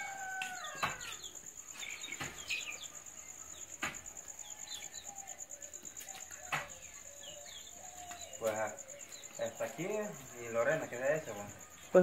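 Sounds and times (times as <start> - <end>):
insect trill: 0.0 - 12.0
bird chirps: 0.2 - 12.0.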